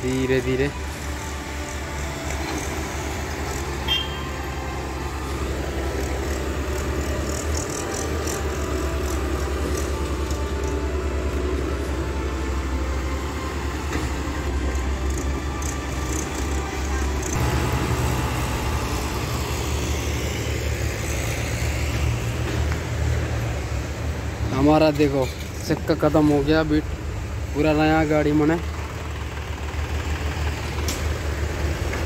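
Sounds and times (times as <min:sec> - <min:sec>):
diesel engines rumbling: 0:00.0 - 0:32.0.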